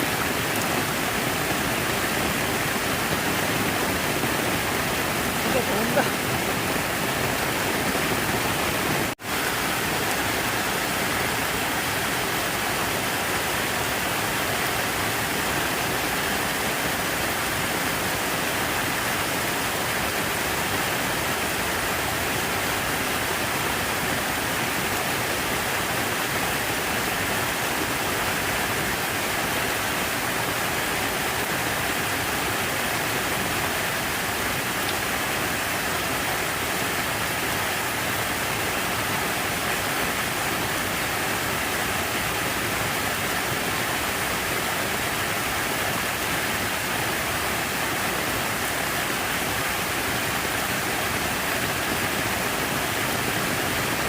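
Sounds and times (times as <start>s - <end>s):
falling water rushing: 0.0s - 54.0s.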